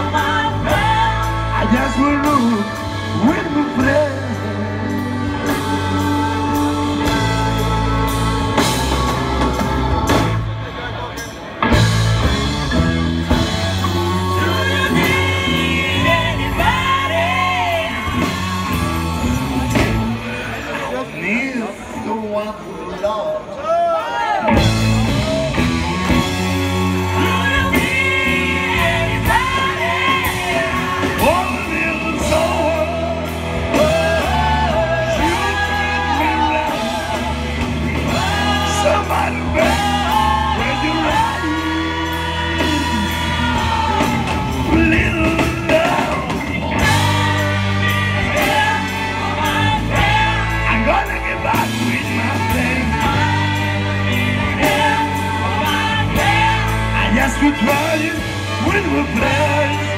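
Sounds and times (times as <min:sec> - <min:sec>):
singing vocals: 0:00.0 - 0:10.2, 0:13.8 - 0:22.5, 0:24.1 - 0:59.9
bass line: 0:00.0 - 0:22.0, 0:24.5 - 0:59.9
rock band playing: 0:00.0 - 0:59.9.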